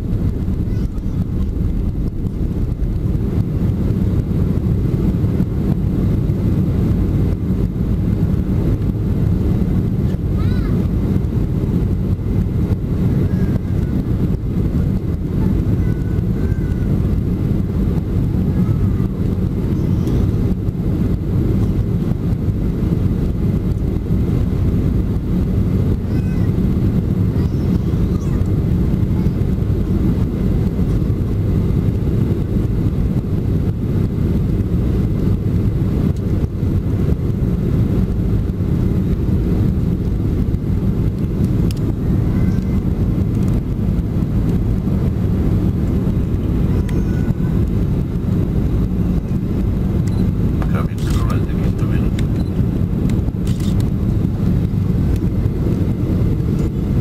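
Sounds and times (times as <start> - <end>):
jet engine drone in cabin: 0.0 - 57.0
rushing airflow: 0.0 - 57.0.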